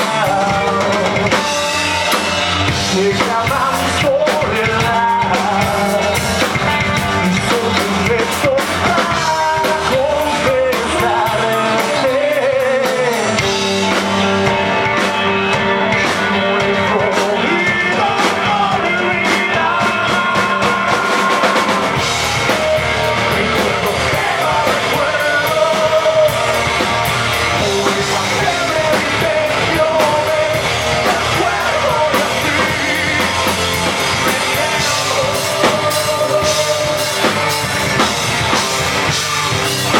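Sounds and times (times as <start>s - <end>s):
drum kit: 0.0s - 39.9s
guitars: 0.0s - 39.9s
person singing: 0.0s - 39.9s
rock band playing live: 0.0s - 39.9s.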